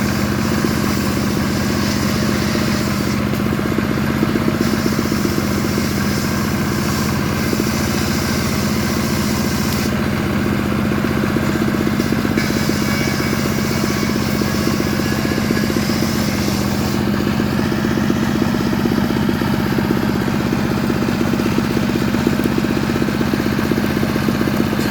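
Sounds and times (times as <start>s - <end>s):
chainsaw sawing wood: 0.0s - 24.9s.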